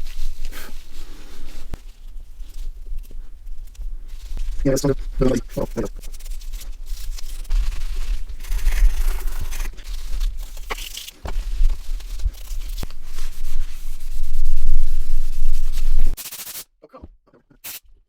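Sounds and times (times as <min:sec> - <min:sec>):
scratchy scrubbing and rustling: 0:00.0 - 0:16.2.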